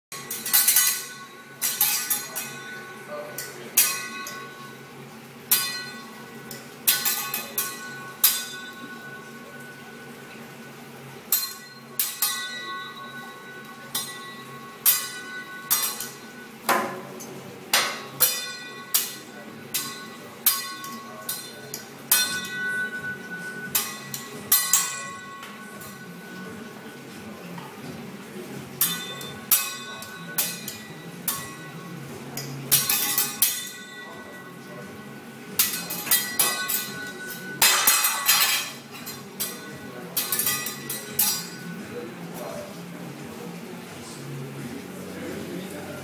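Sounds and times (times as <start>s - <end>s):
metal spatula and fork clanging: 0.1s - 4.8s, 5.5s - 10.0s, 11.3s - 26.8s, 28.8s - 42.8s
metal utensils clinking: 0.1s - 4.9s, 5.5s - 10.4s, 11.3s - 27.6s, 28.7s - 42.8s.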